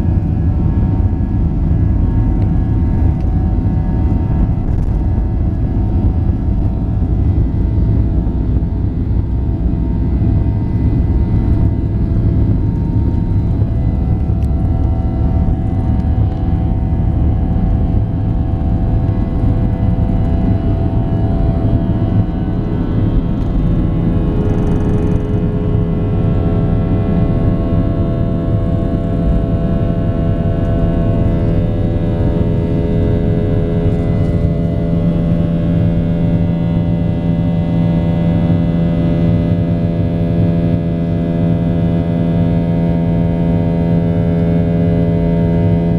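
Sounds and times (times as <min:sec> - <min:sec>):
jet engines roaring: 0:00.0 - 0:45.9
whining fan tones: 0:00.0 - 0:45.9.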